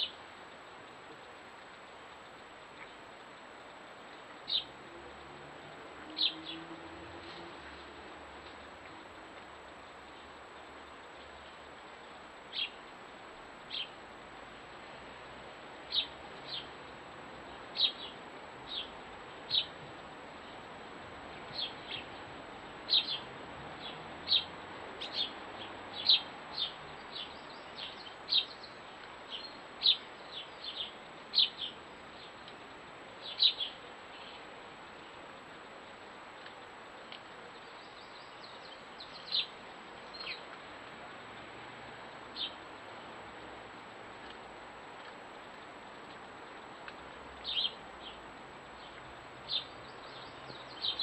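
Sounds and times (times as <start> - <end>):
faint hiss: 0.0 - 51.0.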